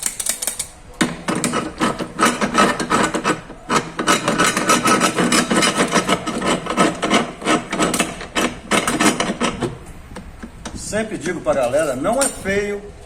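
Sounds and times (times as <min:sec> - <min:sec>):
tool scraping metal: 0:00.0 - 0:12.7.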